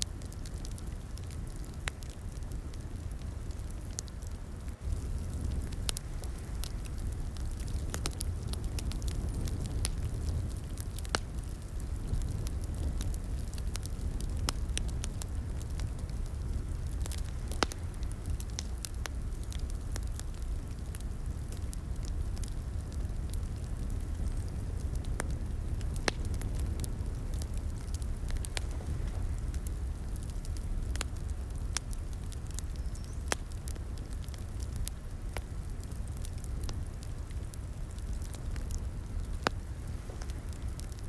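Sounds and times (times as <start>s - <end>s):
fire pops and snaps: 0.0s - 41.0s
wood fire crackling: 0.0s - 41.0s.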